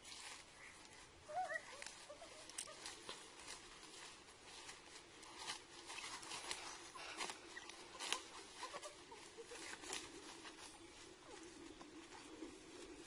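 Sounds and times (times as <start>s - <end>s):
tree branch leaves rustling: 0.0s - 13.0s.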